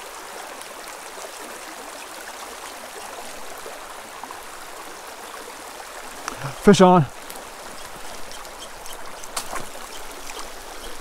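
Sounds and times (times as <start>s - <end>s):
creek babbling over stones: 0.0s - 11.0s.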